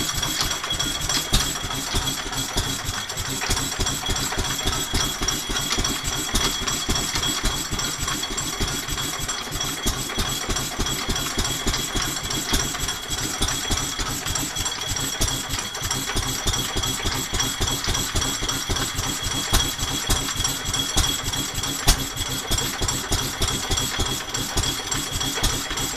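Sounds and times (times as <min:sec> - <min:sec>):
power hacksaw cutting: 0:00.0 - 0:25.9
stationary engine running: 0:00.0 - 0:25.9.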